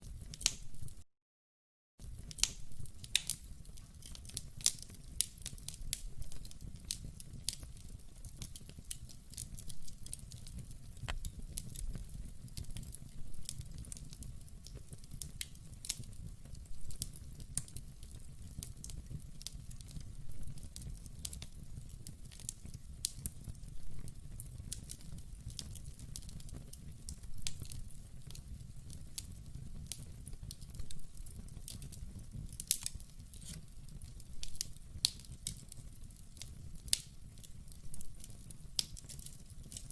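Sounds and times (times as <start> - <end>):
fire crackling pops and snaps: 0.0 - 1.0, 2.0 - 39.9
low rumble of flames: 2.0 - 39.9.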